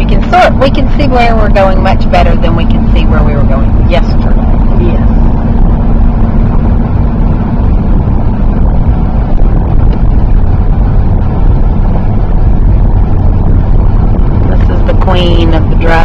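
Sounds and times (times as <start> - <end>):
car road and engine noise: 0.0 - 16.0
low hum: 0.0 - 16.0.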